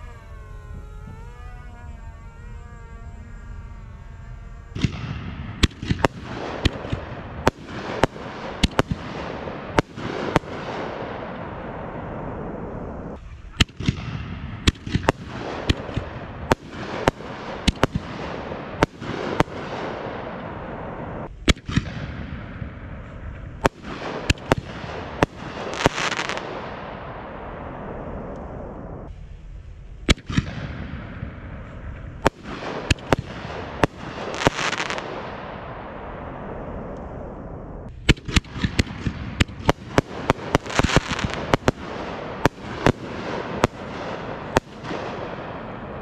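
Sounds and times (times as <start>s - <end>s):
fireworks bangs echoing: 0.0s - 29.1s, 30.0s - 46.0s
fireworks crackle: 0.0s - 46.0s.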